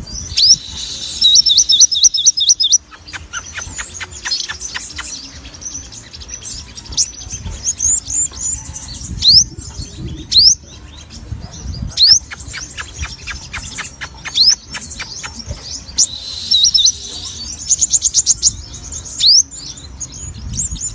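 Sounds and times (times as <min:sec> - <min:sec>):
songbird singing: 0:00.0 - 0:20.9.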